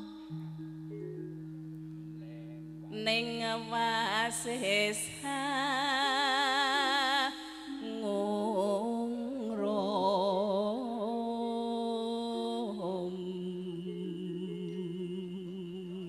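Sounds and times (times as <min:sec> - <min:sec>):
person singing with wide vibrato: 0:00.0 - 0:16.0.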